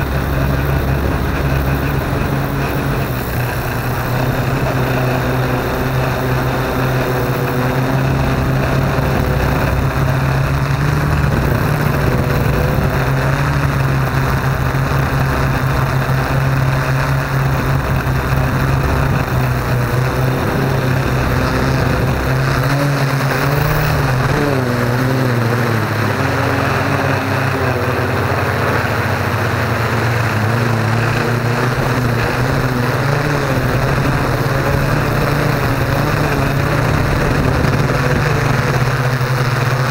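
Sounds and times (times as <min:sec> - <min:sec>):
drone motors and propellers humming: 0:00.0 - 0:39.9.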